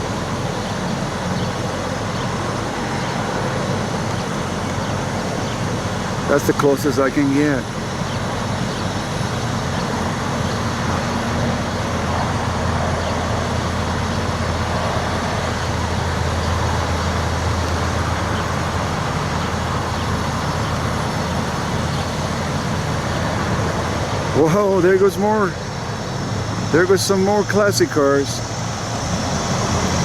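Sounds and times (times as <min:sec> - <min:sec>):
vehicles driving past: 0:00.0 - 0:30.0.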